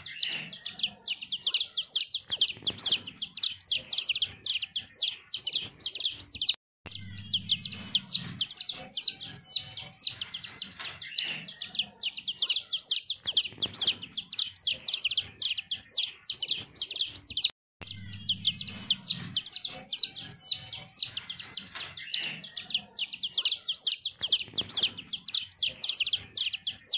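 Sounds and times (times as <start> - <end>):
chicks peeping: 0.0 - 26.9.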